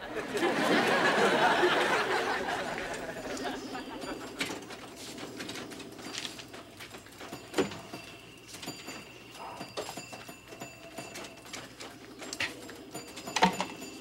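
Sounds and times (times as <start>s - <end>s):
arcade machine beeps: 0.5s - 14.0s.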